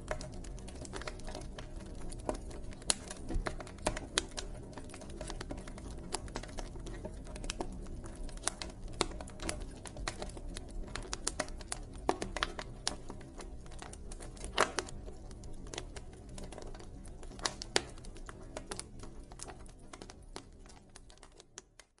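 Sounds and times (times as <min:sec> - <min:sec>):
campfire crackling: 0:00.0 - 0:21.7
low rumble of flame: 0:00.0 - 0:21.9.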